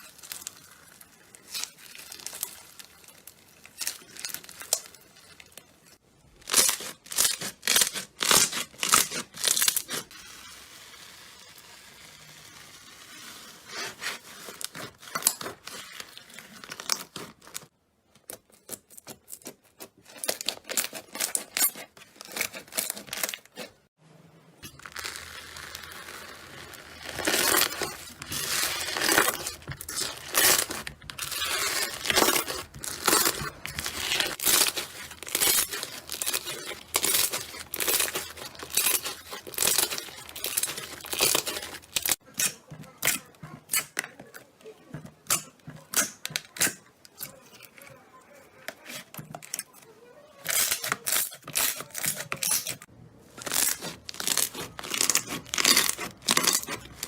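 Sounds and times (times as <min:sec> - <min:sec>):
slime crackling and popping: 0:00.0 - 0:23.8, 0:24.6 - 0:47.9, 0:48.7 - 0:57.0.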